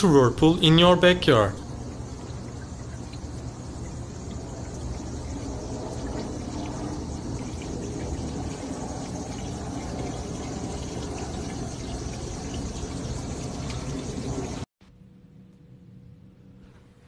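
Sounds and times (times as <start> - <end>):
water swirling in fountain: 0.6 - 14.7.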